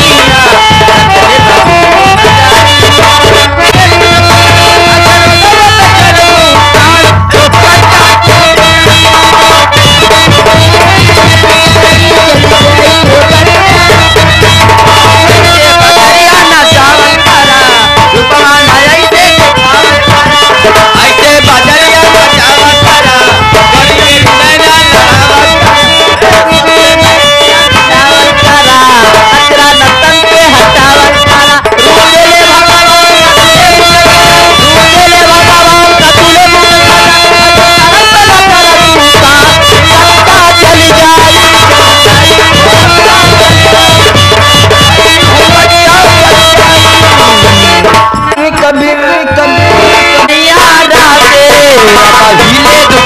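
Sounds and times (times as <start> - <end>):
hand drum playing rhythm: 0.0 - 48.6, 49.3 - 53.0.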